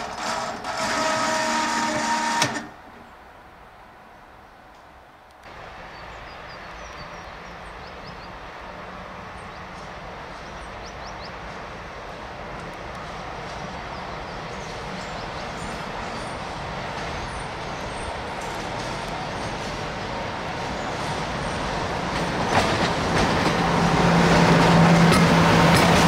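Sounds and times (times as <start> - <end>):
train wheels rumbling on rail: 0.0 - 3.0, 4.7 - 26.0.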